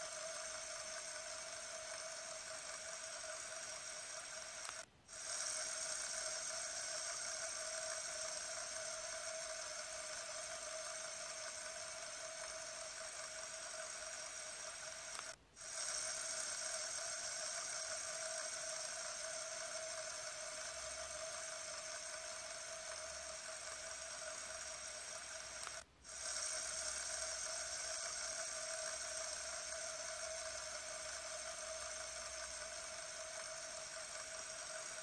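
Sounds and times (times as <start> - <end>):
fidget spinner whirring: 0.0 - 35.0.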